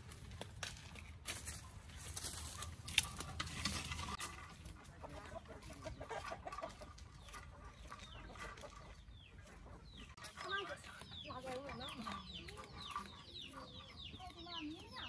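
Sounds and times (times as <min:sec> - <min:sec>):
chickens clucking: 0:01.6 - 0:15.0.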